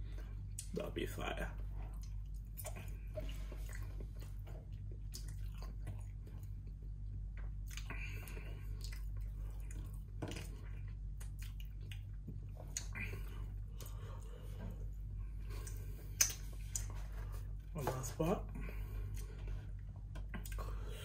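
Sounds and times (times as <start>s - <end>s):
steady low hum: 0.0s - 21.0s
person chewing chicken: 1.8s - 17.5s, 18.7s - 21.0s.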